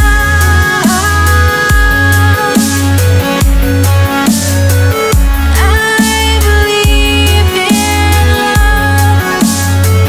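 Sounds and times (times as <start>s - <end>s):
dubstep music with heavy bass: 0.0s - 10.0s.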